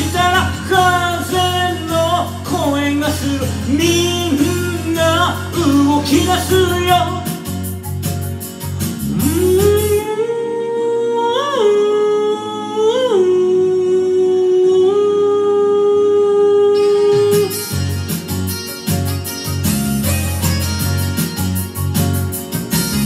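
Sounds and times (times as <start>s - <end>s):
karaoke backing track: 0.0s - 23.0s.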